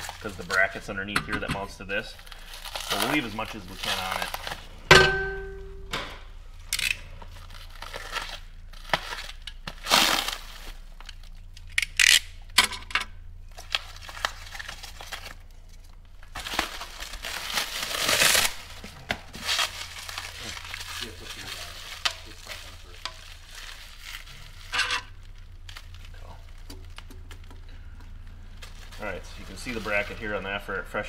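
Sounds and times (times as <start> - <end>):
packaging crinkling and rustling: 0.0 - 0.8, 1.9 - 4.8, 6.7 - 12.2, 13.5 - 31.0.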